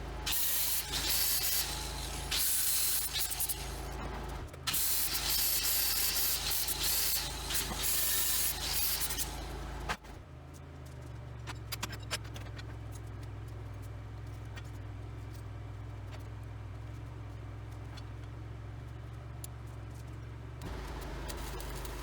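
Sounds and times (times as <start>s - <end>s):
engine idling: 0.0s - 11.3s, 13.0s - 22.0s.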